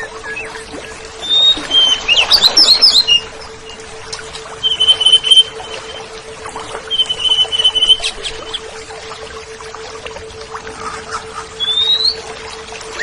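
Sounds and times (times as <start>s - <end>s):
long whistled bird notes: 0.0s - 8.8s, 11.1s - 13.0s.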